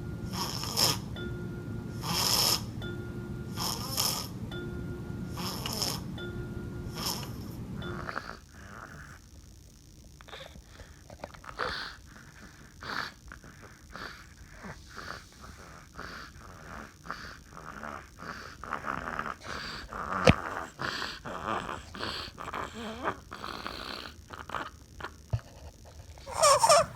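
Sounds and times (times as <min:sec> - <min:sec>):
baby snoring: 0:00.3 - 0:01.2, 0:01.9 - 0:02.9, 0:03.5 - 0:04.4, 0:05.2 - 0:06.2, 0:06.9 - 0:09.3, 0:10.3 - 0:25.1, 0:26.2 - 0:26.9.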